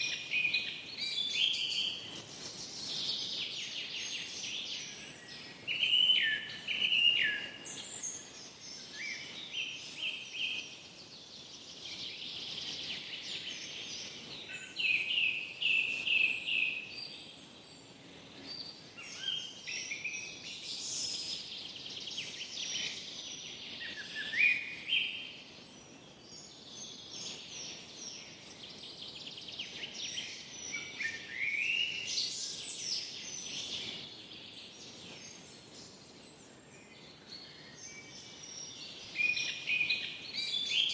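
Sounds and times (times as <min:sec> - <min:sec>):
faint background hiss: 0:00.0 - 0:40.9
songbirds singing: 0:00.0 - 0:40.9.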